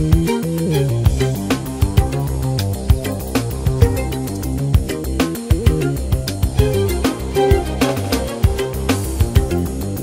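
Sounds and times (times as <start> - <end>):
instrumental psychedelic rock music: 0.0 - 10.0.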